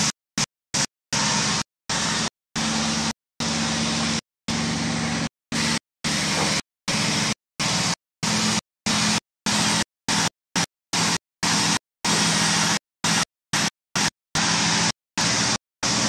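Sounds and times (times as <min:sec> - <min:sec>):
stationary engine running: 0:00.0 - 0:16.0.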